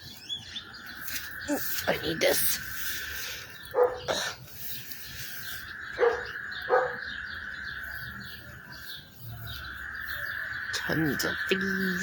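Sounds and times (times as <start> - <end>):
chorus of frogs calling: 0.4 - 12.0.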